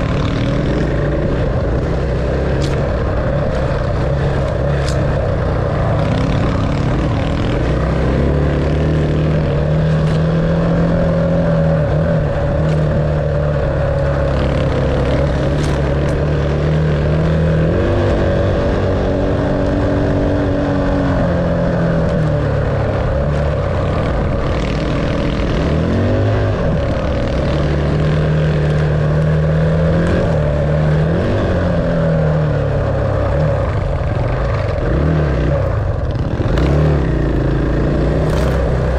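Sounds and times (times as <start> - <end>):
dirt bike engine revving: 0.0 - 33.6, 34.5 - 38.9.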